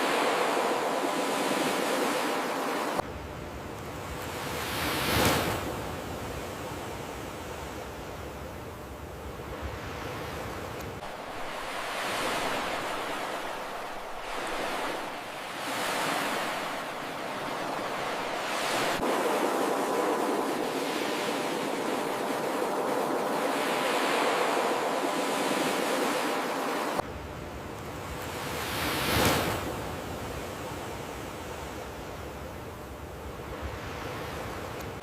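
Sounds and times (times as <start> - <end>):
waves breaking on beach: 0.0 - 3.0, 4.0 - 8.1, 9.4 - 27.0, 27.9 - 32.0.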